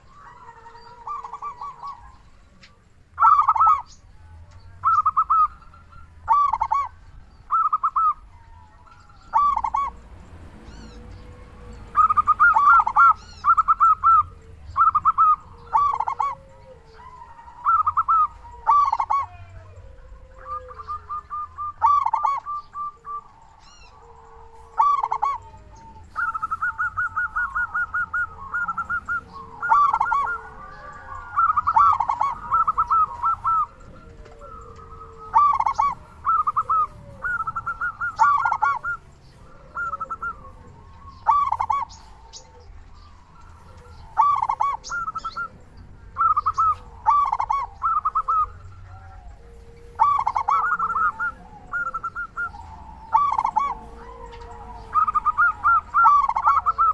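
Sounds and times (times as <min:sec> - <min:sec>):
doves cooing rapidly: 0:00.0 - 0:56.9
faint low gliding bird calls: 0:00.0 - 0:56.9.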